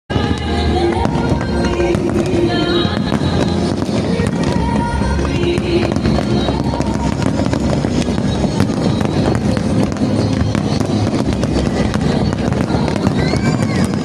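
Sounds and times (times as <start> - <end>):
fireworks banging and crackling: 0.1 - 14.0
loud music over sound system: 0.1 - 14.0.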